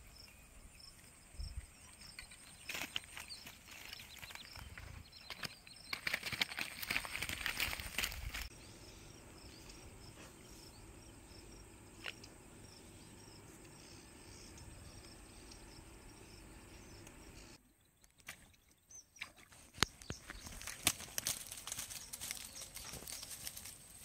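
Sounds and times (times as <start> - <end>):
insects chirping faintly: 0.0 - 24.0.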